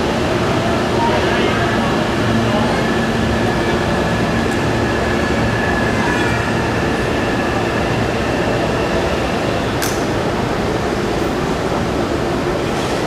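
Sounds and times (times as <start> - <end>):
electric train humming: 0.0 - 12.8.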